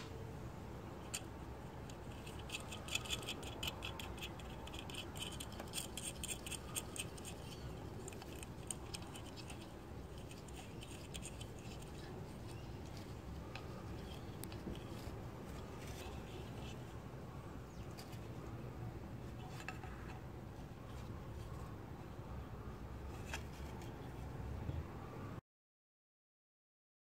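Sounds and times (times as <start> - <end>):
low background noise: 0.0 - 25.4.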